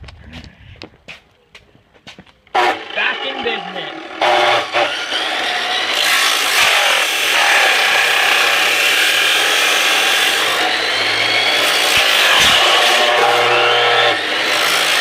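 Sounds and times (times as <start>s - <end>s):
chop saw cutting plastic: 2.6s - 15.0s.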